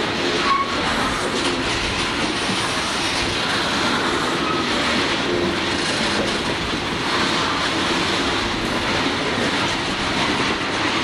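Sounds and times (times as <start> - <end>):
freight train wheels rolling on rails: 0.0 - 11.0.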